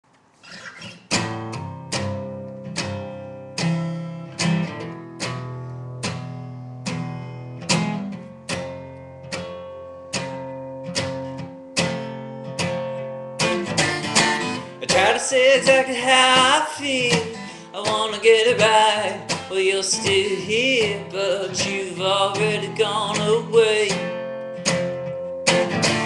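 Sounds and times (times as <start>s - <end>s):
acoustic guitar chords strummed: 0.5s - 26.0s.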